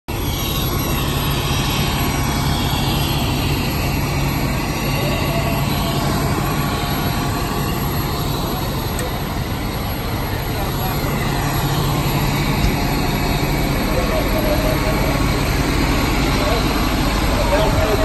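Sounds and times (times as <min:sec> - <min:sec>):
diesel engines running: 0:00.0 - 0:18.0.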